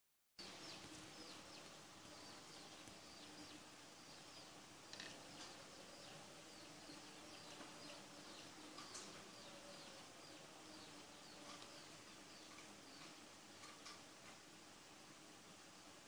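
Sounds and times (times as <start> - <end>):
faint birds chirping: 0.4 - 16.0
faint low steady hum: 0.4 - 16.0.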